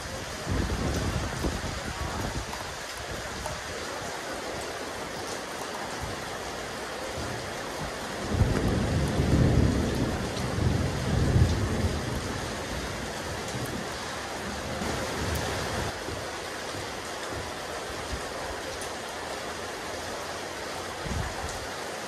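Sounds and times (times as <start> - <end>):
rain falling on a rooftop: 0.0 - 22.0.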